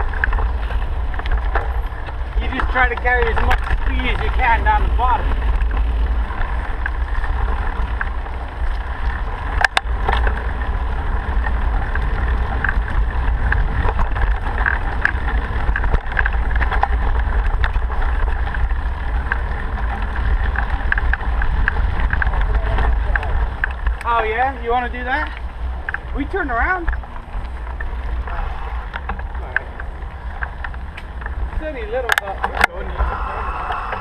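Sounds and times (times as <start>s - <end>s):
vehicle rumbling at speed: 0.0s - 34.0s.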